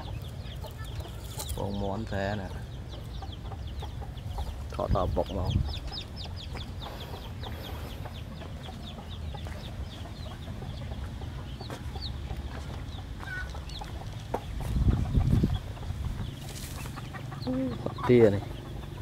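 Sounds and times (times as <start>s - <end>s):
chickens clucking: 0.0s - 19.0s
chicks peeping: 0.0s - 19.0s.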